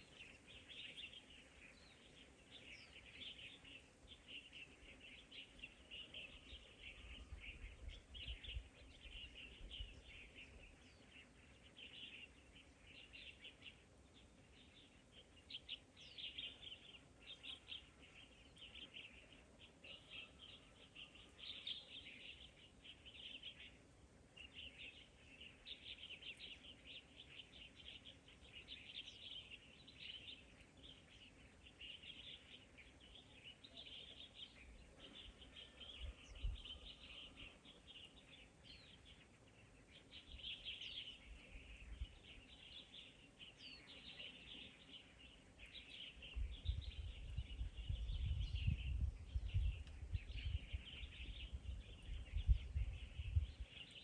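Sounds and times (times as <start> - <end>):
dense high-pitched chirping chorus: 0.0 - 23.8, 24.4 - 54.0.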